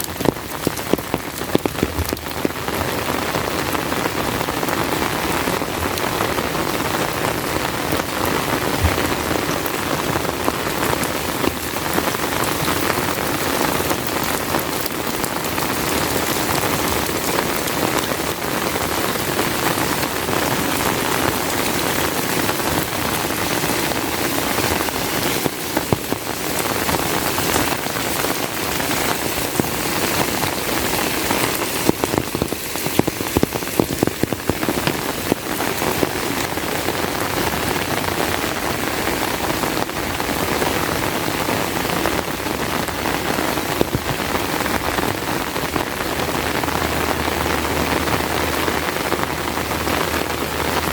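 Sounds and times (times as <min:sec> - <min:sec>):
heavy rain falling: 0:00.0 - 0:50.9
sharp raindrop hits: 0:00.0 - 0:50.9.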